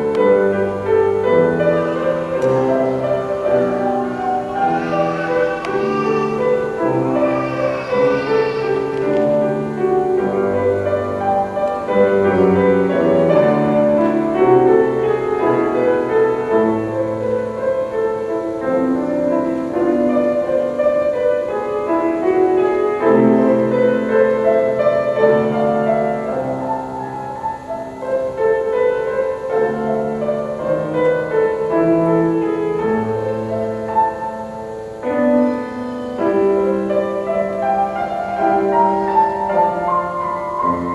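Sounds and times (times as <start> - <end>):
slow classical piano music: 0.0 - 40.9.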